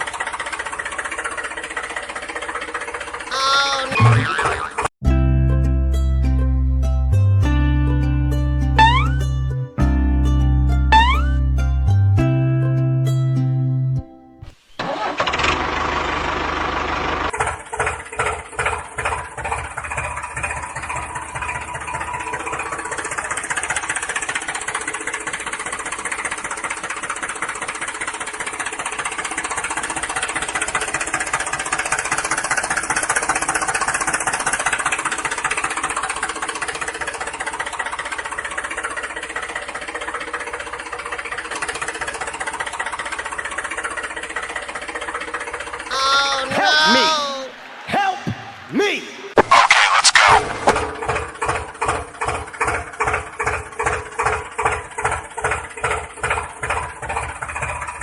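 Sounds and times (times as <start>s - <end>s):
tractor engine chugging: 0.0s - 4.9s, 6.8s - 11.9s, 14.8s - 47.3s, 49.9s - 58.0s.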